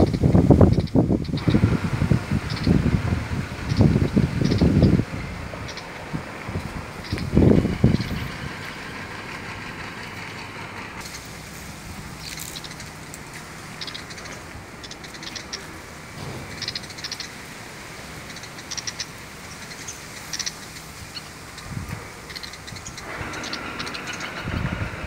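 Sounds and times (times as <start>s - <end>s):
small bird chirping: 0.0s - 1.7s, 2.4s - 9.0s, 12.0s - 17.5s, 18.2s - 24.7s
steady low hum: 0.0s - 25.0s.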